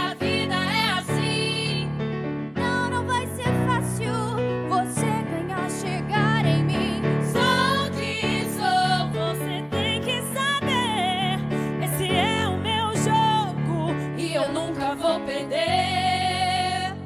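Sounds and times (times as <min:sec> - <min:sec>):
women singing pop song: 0:00.0 - 0:01.9, 0:02.6 - 0:17.0.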